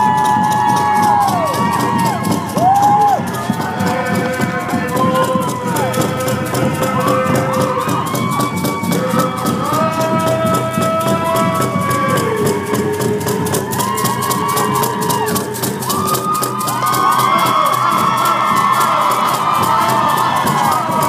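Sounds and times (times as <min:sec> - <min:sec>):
crowd noise: 0:00.0 - 0:21.0
drum beating steady rhythm: 0:00.0 - 0:21.0
group of voices singing: 0:00.0 - 0:21.0.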